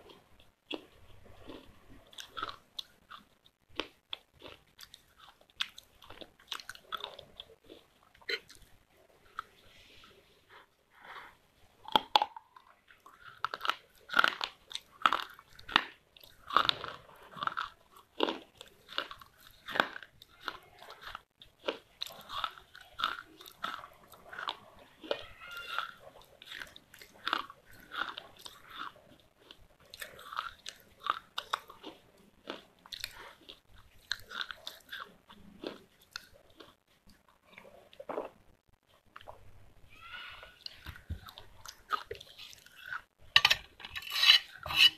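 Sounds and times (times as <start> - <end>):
crunching and chewing dry clay: 0.0 - 39.6, 40.4 - 43.8.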